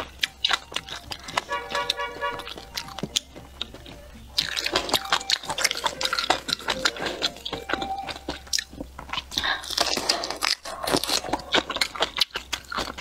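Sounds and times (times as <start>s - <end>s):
wet squishy chewing: 0.0s - 13.0s.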